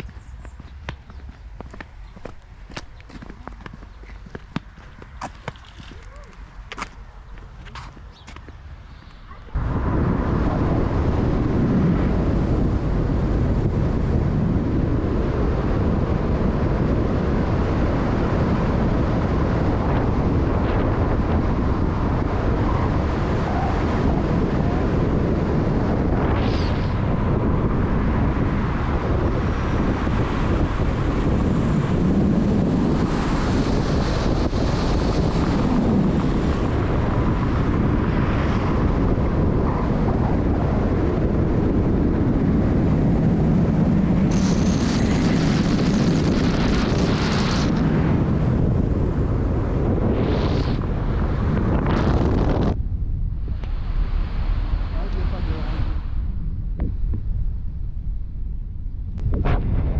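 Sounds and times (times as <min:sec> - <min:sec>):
moving vehicle rumble: 0:00.0 - 0:59.9
wind buffeting microphone: 0:00.0 - 0:59.9.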